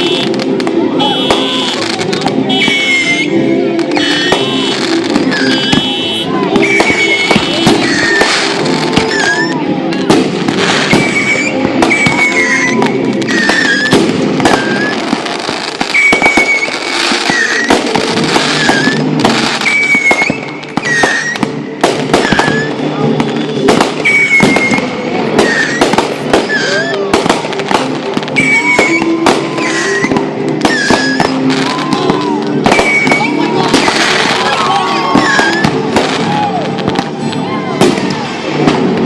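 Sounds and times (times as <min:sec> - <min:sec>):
fireworks bangs and crackles: 0:00.0 - 0:39.0
music playing: 0:00.0 - 0:39.0.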